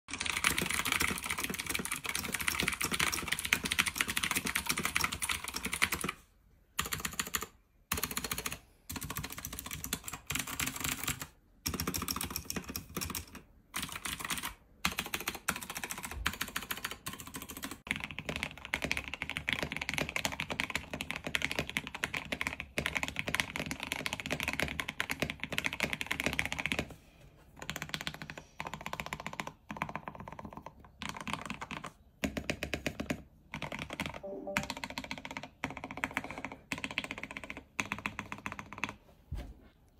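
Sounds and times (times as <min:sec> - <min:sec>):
fast mechanical keyboard typing: 0:00.1 - 0:06.2, 0:06.8 - 0:26.9, 0:27.6 - 0:39.0.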